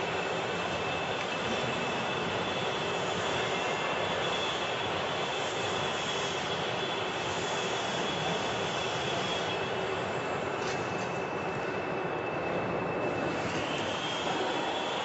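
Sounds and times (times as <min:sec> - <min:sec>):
faint high whine: 0:00.0 - 0:15.0
workshop machinery rush: 0:00.0 - 0:15.0.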